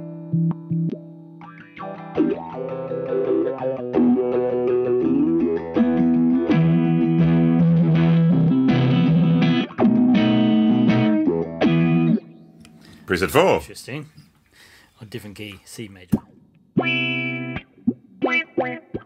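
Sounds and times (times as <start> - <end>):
electric guitar with swept filter: 0.0 - 13.1, 16.1 - 19.0.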